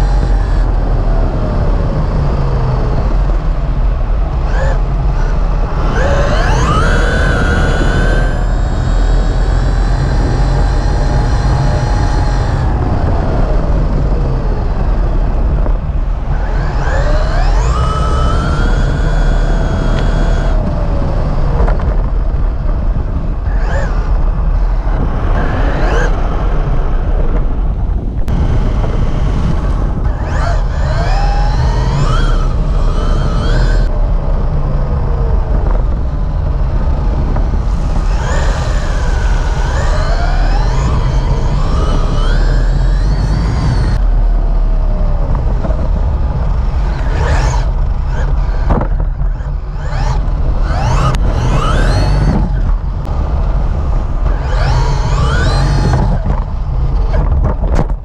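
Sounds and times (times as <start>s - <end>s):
electric motor whining: 0.0s - 44.1s, 44.9s - 57.9s
heavy low rumble: 0.0s - 58.0s.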